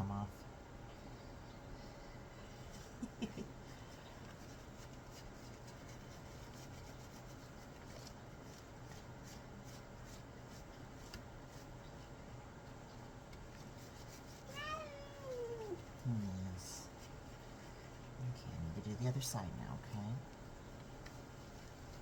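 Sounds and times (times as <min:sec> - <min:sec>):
steady low hum: 0:00.0 - 0:22.0
hands rubbing cat fur: 0:01.8 - 0:18.2, 0:19.0 - 0:22.0.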